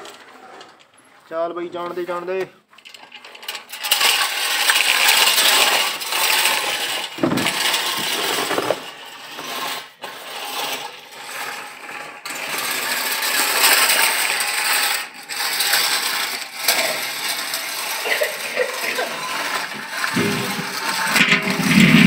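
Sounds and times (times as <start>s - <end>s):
toy tractor rattling on stone: 2.1s - 22.0s.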